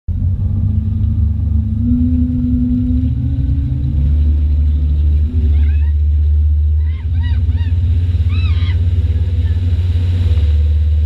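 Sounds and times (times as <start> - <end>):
motorboat engine drone: 0.1 - 11.0.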